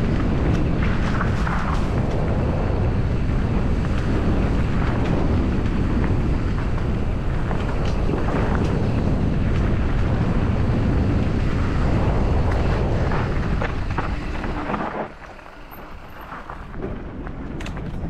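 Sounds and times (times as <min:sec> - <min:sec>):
bike clicks and rattles: 0:00.0 - 0:18.0
bike tyre noise on dirt: 0:00.0 - 0:18.0
wind rushing over microphone: 0:00.0 - 0:18.0.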